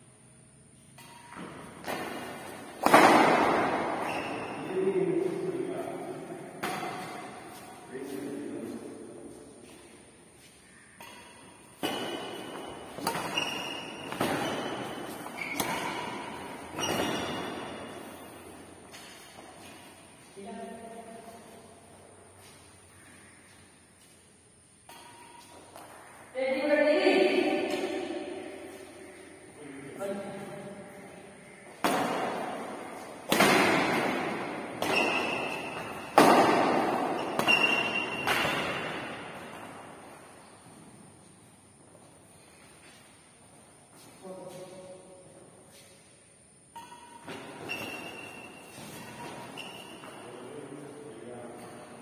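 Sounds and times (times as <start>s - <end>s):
racket hitting shuttlecock echoing: 0.7s - 22.8s, 24.8s - 26.3s, 27.2s - 29.4s, 30.2s - 41.0s, 44.5s - 50.5s.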